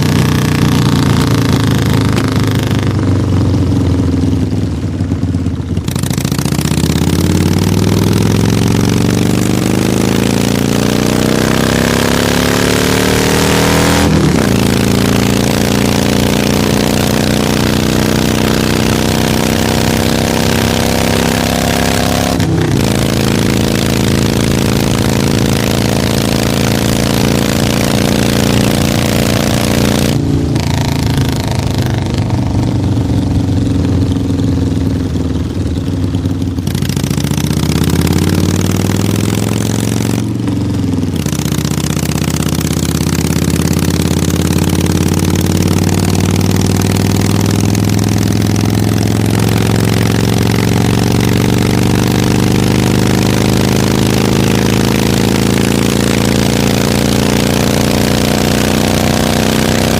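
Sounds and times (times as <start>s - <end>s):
motorcycle accelerating: 0.0s - 59.9s.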